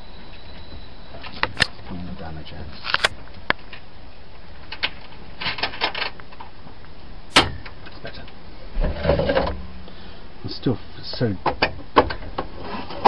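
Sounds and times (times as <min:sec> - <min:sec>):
steady low hiss: 0:00.0 - 0:12.6.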